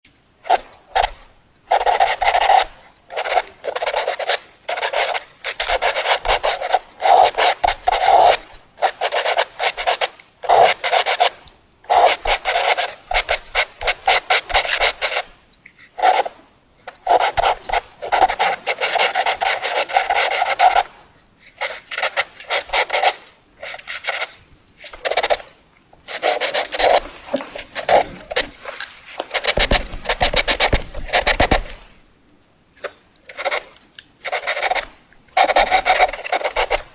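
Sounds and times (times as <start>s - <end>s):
pencil scratching on paper: 0.5s - 15.4s, 16.0s - 20.9s, 21.5s - 31.9s, 33.3s - 36.9s.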